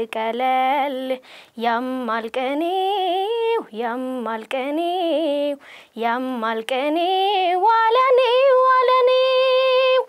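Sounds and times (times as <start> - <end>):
girl singing unaccompanied: 0.0 - 10.0.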